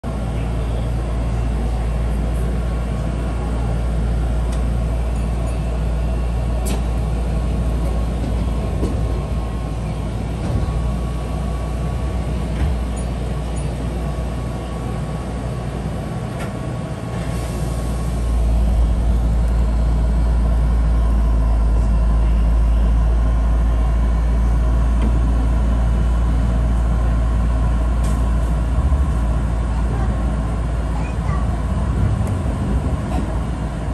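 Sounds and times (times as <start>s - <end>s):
electric train rumbling: 0.0s - 33.9s.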